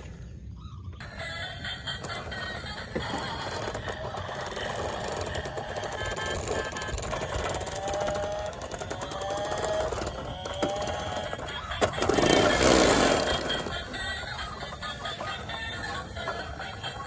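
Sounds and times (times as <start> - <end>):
small motor rattling buzz: 2.7 - 17.0.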